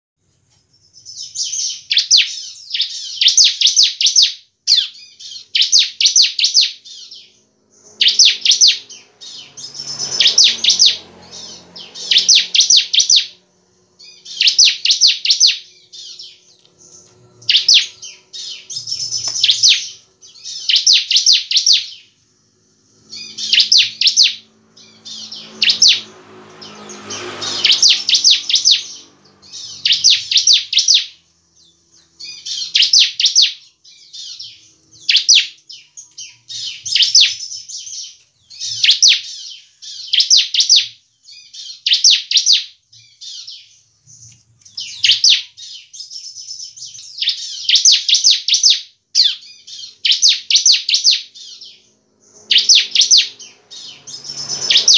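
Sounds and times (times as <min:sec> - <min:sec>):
bird singing high trills: 0:00.7 - 0:54.9.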